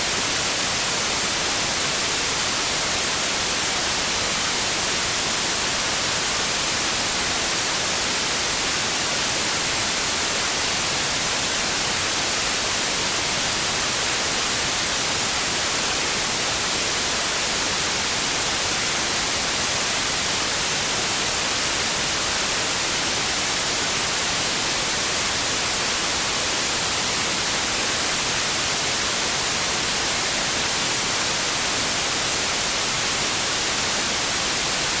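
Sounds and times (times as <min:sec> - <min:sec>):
white noise hiss: 0:00.0 - 0:35.0.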